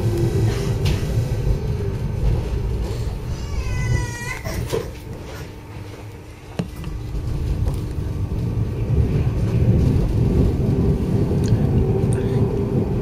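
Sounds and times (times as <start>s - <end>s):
tram rumbling on track: 0.0s - 13.0s.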